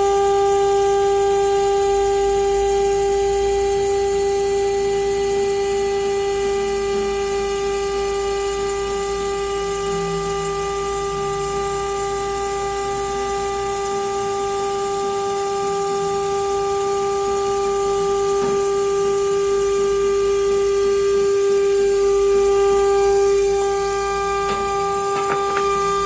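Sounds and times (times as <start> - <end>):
spindle motor whining: 0.0 - 26.0.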